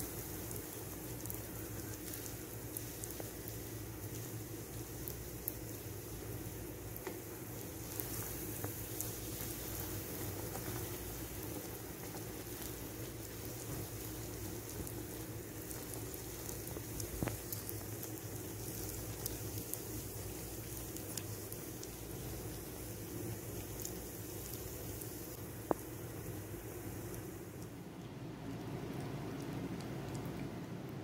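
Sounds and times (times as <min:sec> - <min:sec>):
dough sizzling in hot oil: 0:00.0 - 0:31.0
small crackles: 0:00.0 - 0:31.0.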